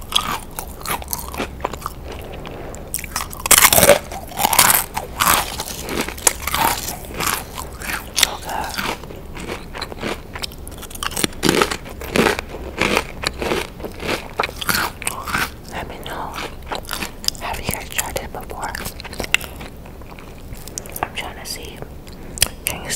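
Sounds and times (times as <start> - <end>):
chips crunching while chewed: 0.0 - 21.8.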